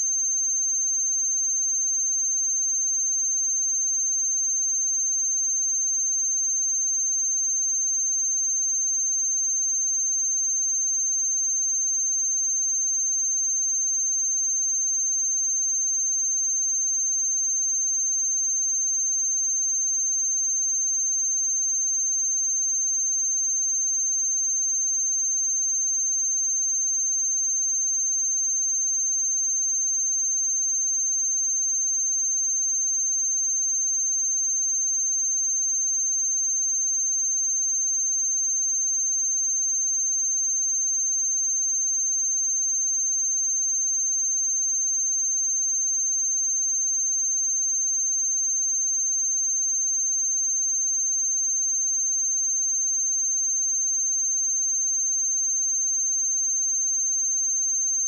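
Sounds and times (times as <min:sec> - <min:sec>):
sine wave test tone: 0:00.0 - 0:58.0.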